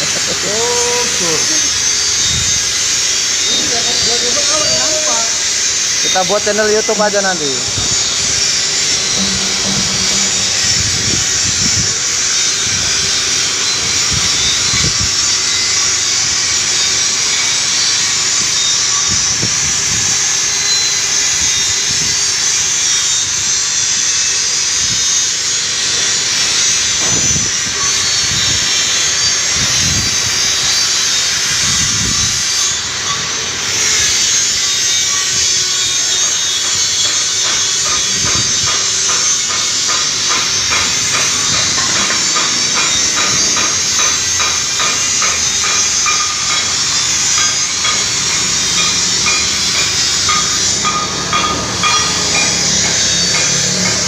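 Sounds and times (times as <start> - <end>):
machinery hissing: 0.0 - 54.0.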